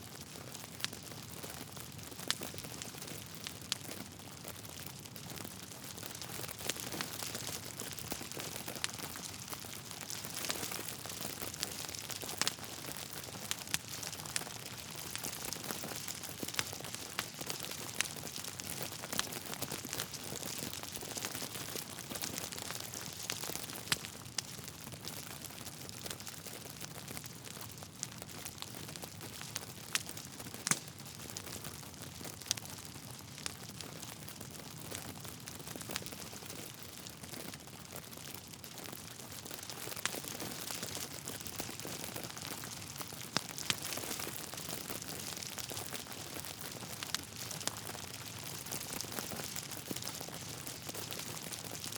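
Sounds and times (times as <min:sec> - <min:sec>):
wood fire crackling and popping: 0:00.1 - 0:51.9.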